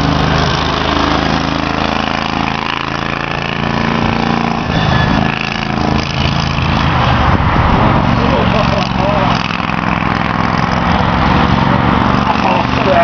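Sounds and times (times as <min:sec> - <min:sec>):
go-kart engines idling: 0:00.0 - 0:13.0.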